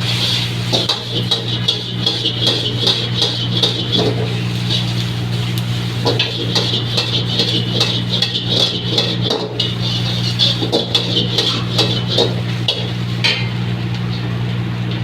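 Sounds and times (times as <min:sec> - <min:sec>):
metal spatula scraping a wok: 0:00.0 - 0:13.5
steady low hum: 0:00.0 - 0:15.0.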